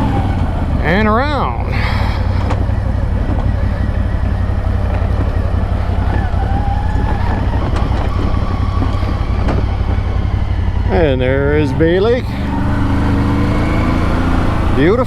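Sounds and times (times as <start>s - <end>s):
atv engine running: 0.0s - 15.0s
rumble over the ground: 0.0s - 15.0s.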